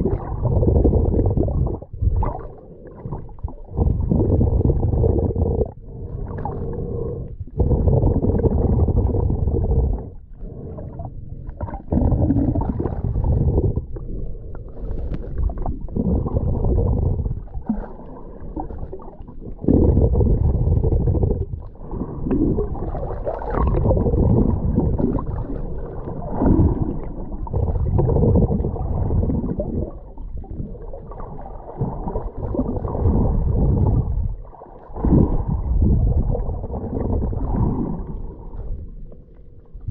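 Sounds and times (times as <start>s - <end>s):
sea water churning: 0.0s - 39.9s.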